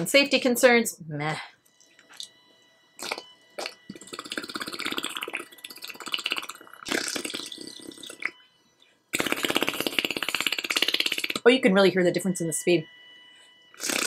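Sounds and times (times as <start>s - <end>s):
massage gun buzzing: 1.7s - 14.0s.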